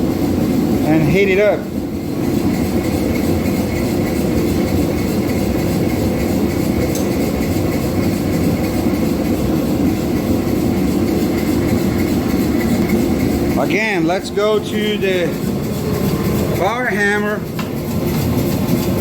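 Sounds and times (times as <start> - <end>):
forge rushing noise: 0.0 - 19.0.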